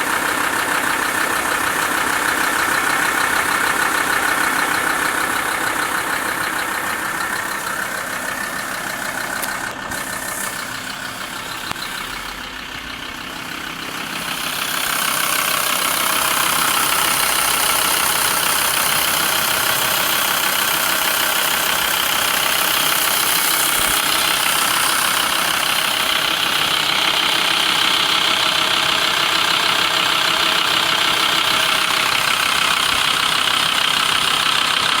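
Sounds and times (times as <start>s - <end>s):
diesel engine idling with knock: 0.0s - 35.0s.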